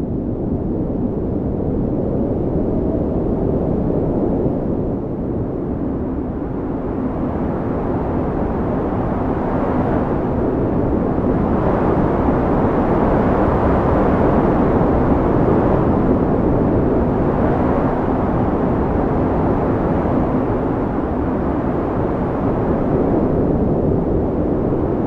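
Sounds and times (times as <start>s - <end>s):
strong wind blowing: 0.0s - 25.0s.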